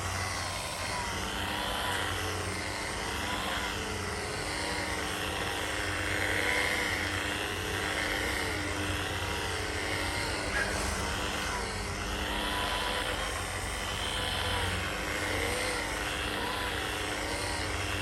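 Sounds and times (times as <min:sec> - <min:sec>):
machine humming and rushing: 0:00.0 - 0:18.0.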